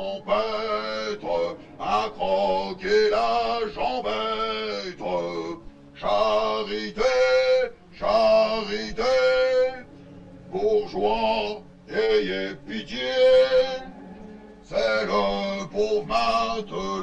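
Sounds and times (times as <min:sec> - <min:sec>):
man singing slow song: 0:00.0 - 0:09.9, 0:10.5 - 0:14.0, 0:14.6 - 0:17.0.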